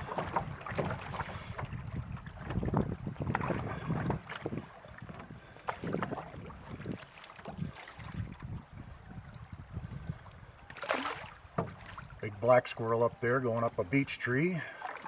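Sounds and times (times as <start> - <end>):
wind on microphone: 0.0 - 12.2
paddle splashing in water: 0.0 - 12.4, 14.6 - 15.0.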